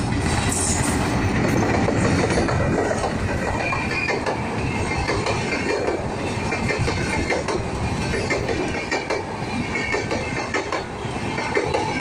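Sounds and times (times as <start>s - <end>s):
train wheels rumbling on rails: 0.0s - 12.0s
wheels clicking over rail joints: 0.0s - 12.0s.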